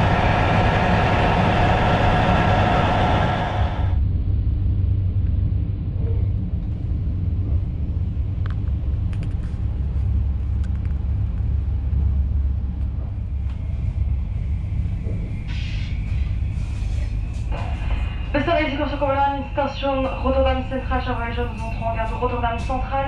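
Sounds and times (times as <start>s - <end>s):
train carriage rumble on rails: 0.0s - 23.0s.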